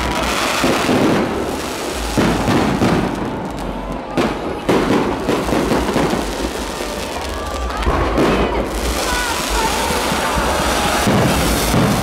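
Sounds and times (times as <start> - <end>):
sharp firework booms: 0.0 - 6.9, 8.0 - 12.0
dense firework crackle: 0.0 - 12.0.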